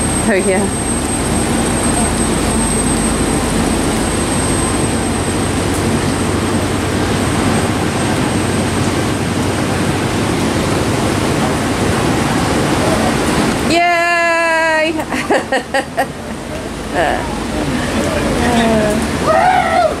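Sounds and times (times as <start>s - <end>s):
ocean surf breaking: 0.0s - 20.0s
rain: 0.0s - 20.0s.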